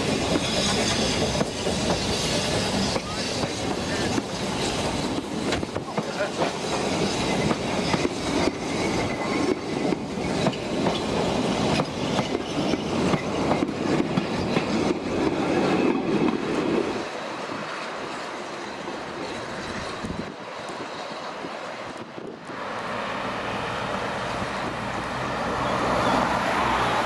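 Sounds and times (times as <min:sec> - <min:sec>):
train wheels clattering on rails: 0:00.0 - 0:22.5.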